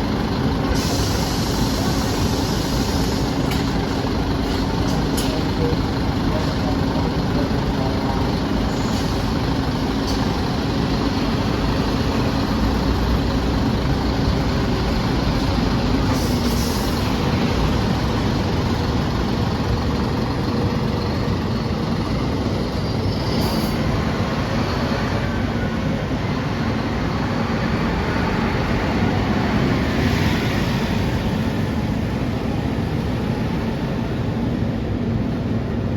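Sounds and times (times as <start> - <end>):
bus diesel engine idling: 0.0 - 35.9.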